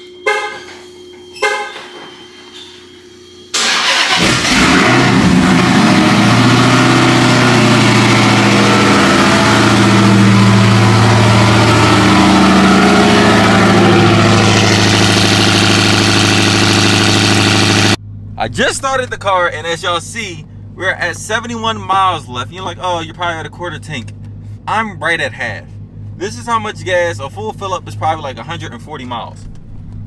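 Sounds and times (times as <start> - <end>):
car engine starting and idling: 3.5 - 30.0.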